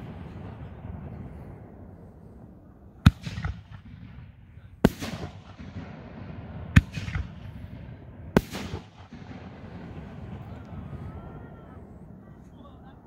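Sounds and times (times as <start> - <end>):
firework bangs: 0.0 - 12.2.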